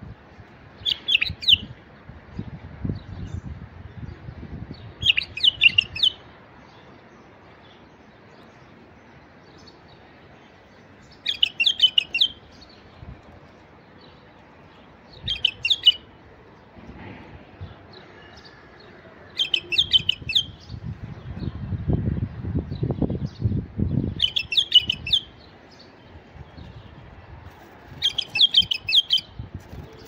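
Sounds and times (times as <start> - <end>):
bird singing bright phrases: 0.7 - 16.7, 17.6 - 27.3, 27.9 - 30.0.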